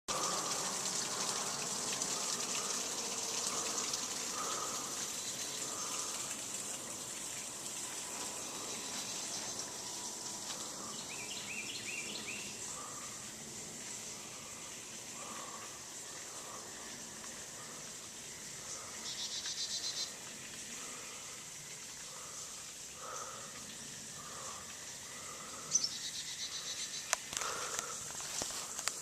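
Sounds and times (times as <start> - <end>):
small waterfall splashing: 0.1 - 29.0.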